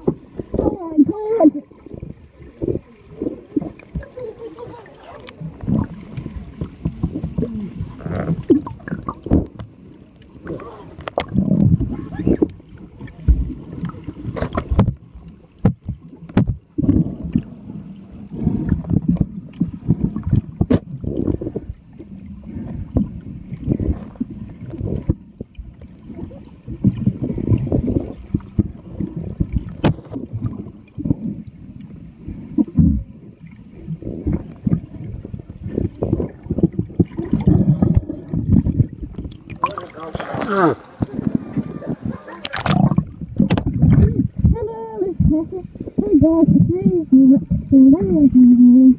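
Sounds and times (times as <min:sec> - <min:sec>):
underwater rumble of moving water: 0:00.0 - 0:48.9.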